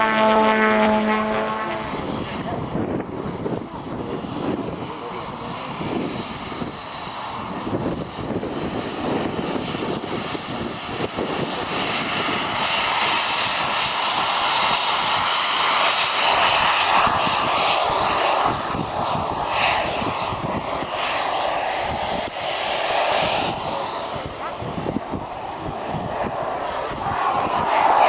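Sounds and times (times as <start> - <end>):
model aircraft engine: 0.0 - 28.0.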